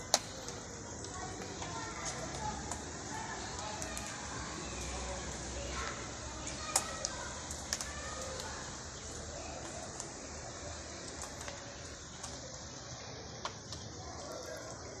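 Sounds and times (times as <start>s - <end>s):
sharp rain ticks: 0.0s - 15.0s
steady rain falling: 0.0s - 15.0s.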